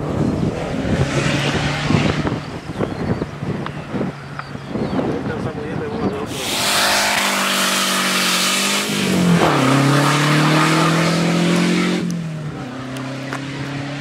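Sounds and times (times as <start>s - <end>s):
car engine revving: 0.0s - 4.1s, 6.3s - 14.0s.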